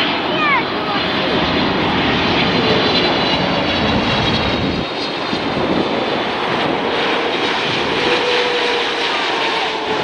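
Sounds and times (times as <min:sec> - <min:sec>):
jet engines whining: 0:00.0 - 0:10.0
wind noise on microphone: 0:01.0 - 0:10.0.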